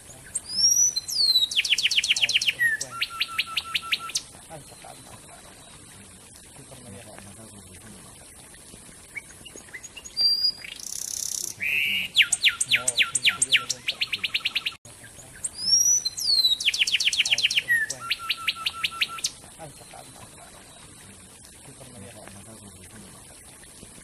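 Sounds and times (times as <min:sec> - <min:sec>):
wren singing: 0:00.0 - 0:07.5, 0:09.1 - 0:22.7.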